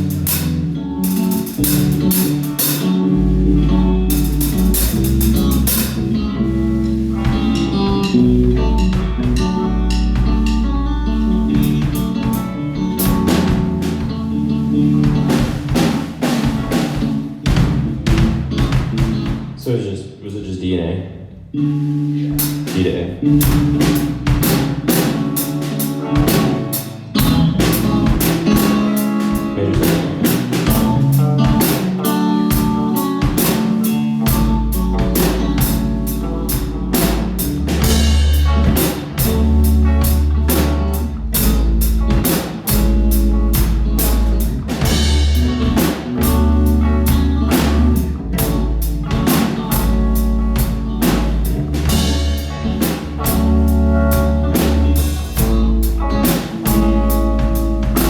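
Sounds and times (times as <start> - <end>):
electric guitar chords: 0.0 - 19.6, 21.1 - 58.0
drum kit hits: 0.0 - 19.7, 22.2 - 58.0
bass notes: 0.0 - 58.0.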